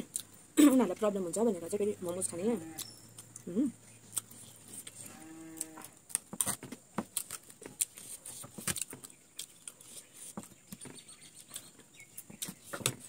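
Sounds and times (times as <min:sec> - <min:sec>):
crunching raw vegetables: 0:02.1 - 0:13.0.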